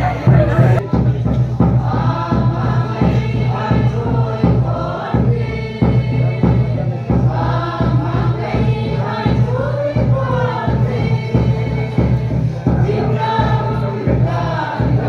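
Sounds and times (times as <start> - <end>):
group singing a hymn: 0.0 - 15.0
steady beat: 0.0 - 15.0.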